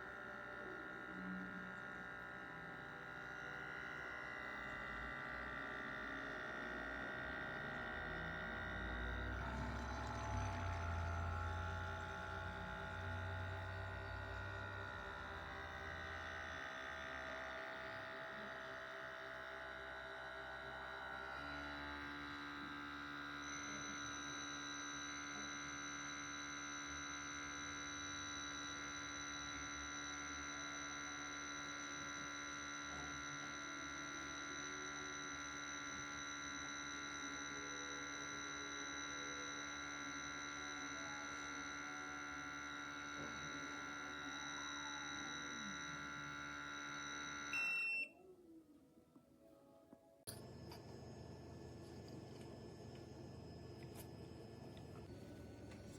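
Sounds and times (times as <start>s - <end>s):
small electric pump buzzing hum: 0.0s - 48.1s, 50.3s - 55.9s.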